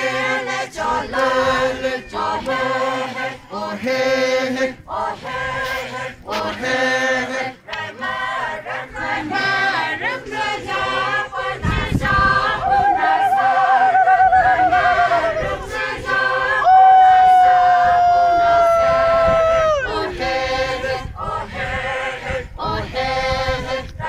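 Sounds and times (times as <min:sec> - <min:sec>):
group singing a chant: 0:00.0 - 0:24.0.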